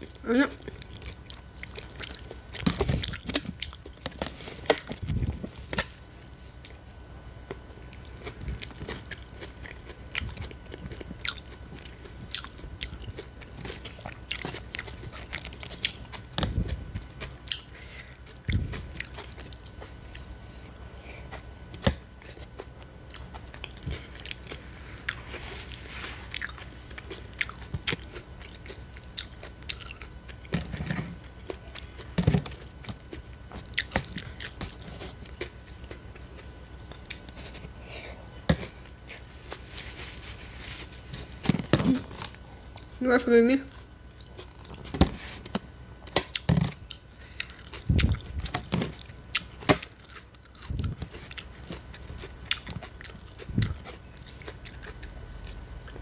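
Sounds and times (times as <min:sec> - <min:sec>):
chewing and crunching salad: 0:00.0 - 0:56.0.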